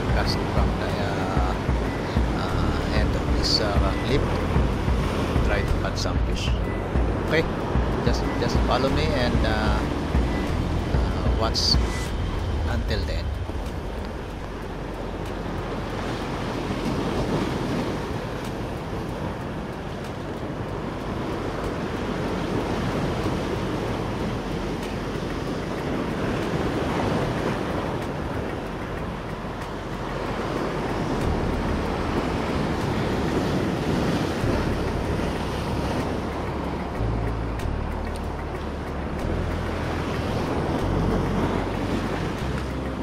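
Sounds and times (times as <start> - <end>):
waves washing on rocky shore: 0.0 - 43.0
wind rumbling on microphone: 0.0 - 43.0.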